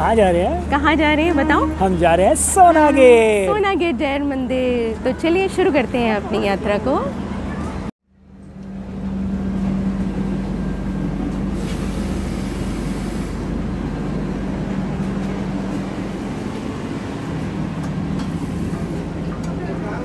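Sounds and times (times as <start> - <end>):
train mechanical hum and rumble: 0.0 - 20.0.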